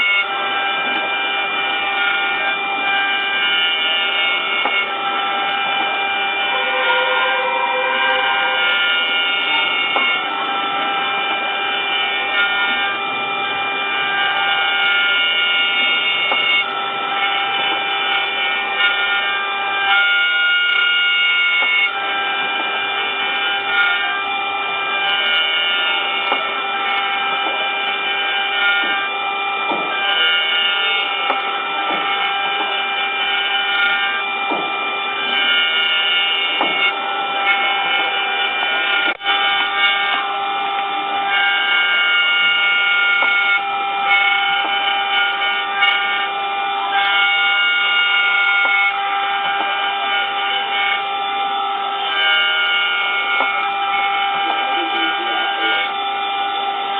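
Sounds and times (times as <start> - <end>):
cnc spindle whine: 0.0 - 56.9
cutting noise: 0.0 - 56.9.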